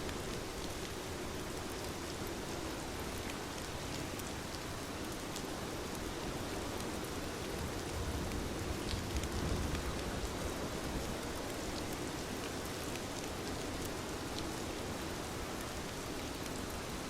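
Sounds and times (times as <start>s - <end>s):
raindrops ticking on a surface: 0.0s - 17.0s
steady rain hiss: 0.0s - 17.0s.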